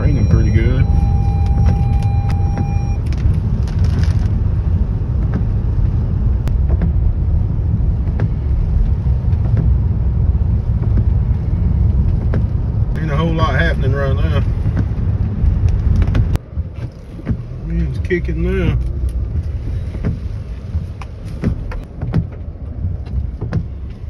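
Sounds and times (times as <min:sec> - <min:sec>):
car engine and tyres rumbling: 0:00.0 - 0:24.0
windshield wipers sweeping: 0:00.0 - 0:24.0.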